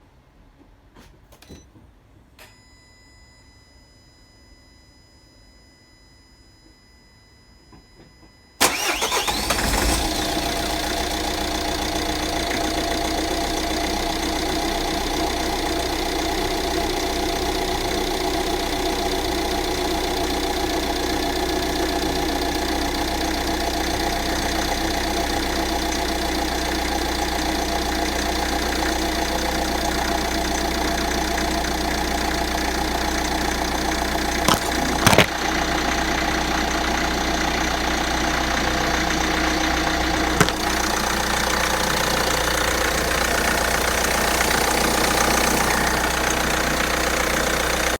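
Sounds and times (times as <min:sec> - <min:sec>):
diesel engine starting and idling: 0:08.6 - 0:47.9.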